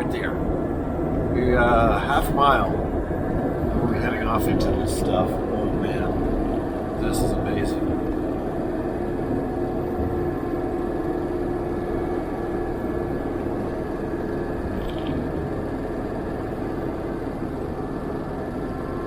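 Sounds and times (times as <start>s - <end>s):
constant hum: 0.0s - 19.0s
road noise: 0.0s - 19.0s
truck engine drone: 0.0s - 19.0s.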